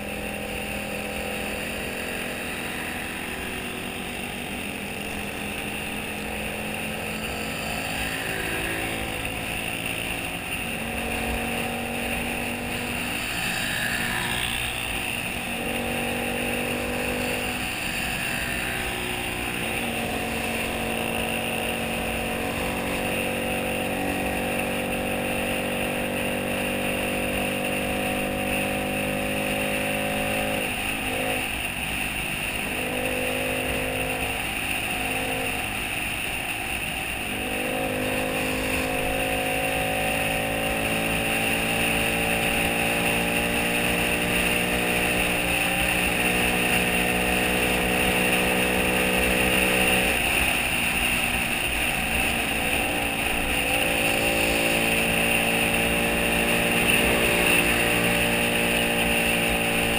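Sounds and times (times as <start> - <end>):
small motorcycle engine running: 0.0 - 59.9
wind and road noise: 0.0 - 59.9.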